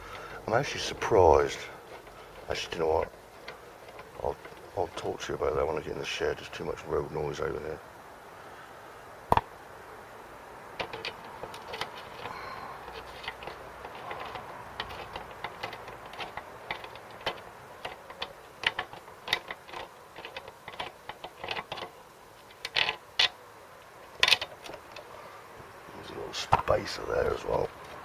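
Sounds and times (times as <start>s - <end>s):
faint road noise: 0.0s - 28.0s.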